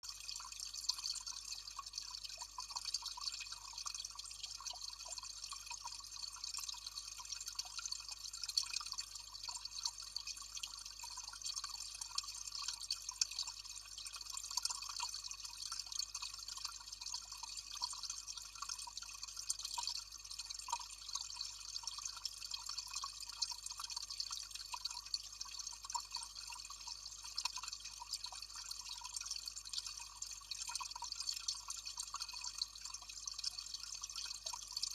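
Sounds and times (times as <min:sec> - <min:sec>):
water trickling and dripping: 0:00.0 - 0:34.9.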